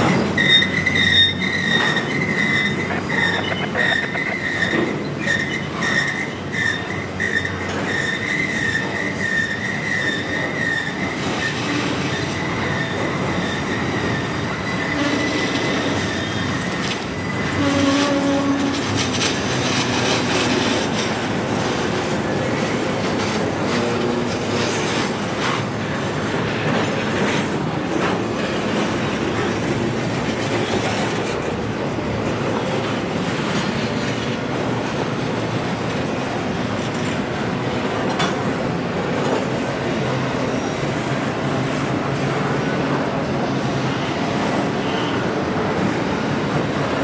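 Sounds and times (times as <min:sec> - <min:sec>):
rail clacks: 0:00.0 - 0:47.0
train wheels rumbling on track: 0:00.0 - 0:47.0.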